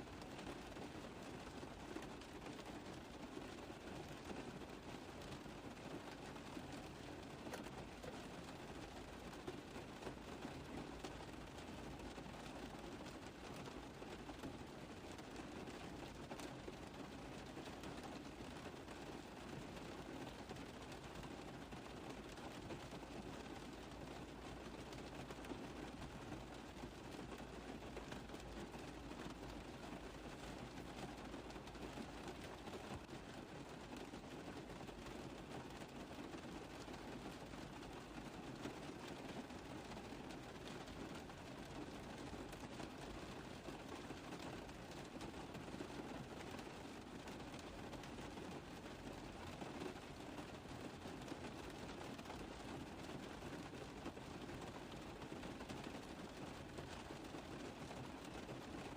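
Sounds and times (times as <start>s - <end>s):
rain on a car roof: 0.0s - 58.9s.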